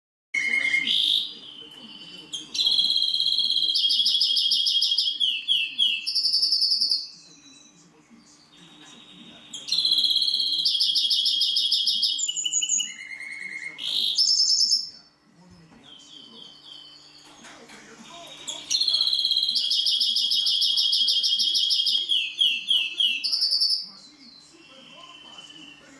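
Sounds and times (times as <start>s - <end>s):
bird singing trills: 0.4s - 15.0s, 15.8s - 17.4s, 18.1s - 25.9s.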